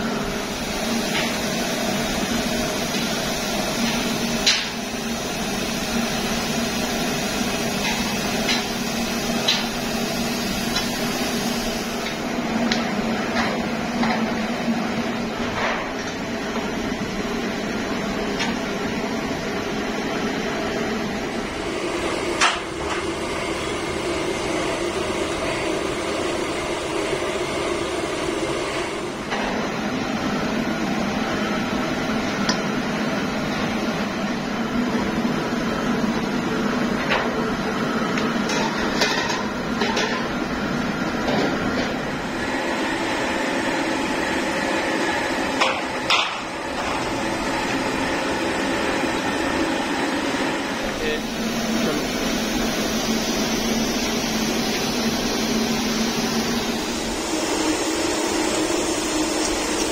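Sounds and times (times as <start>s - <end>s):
workshop machinery humming: 0.0s - 59.9s.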